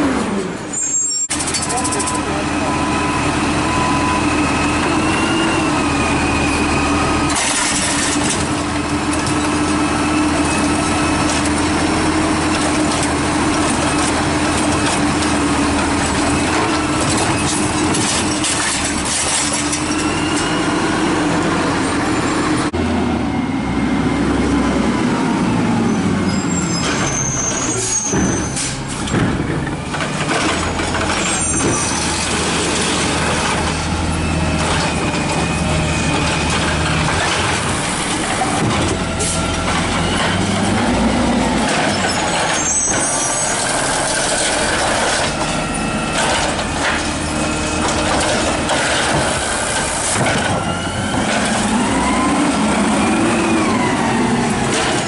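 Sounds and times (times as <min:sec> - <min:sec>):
garbage truck idling: 0:01.3 - 0:55.0.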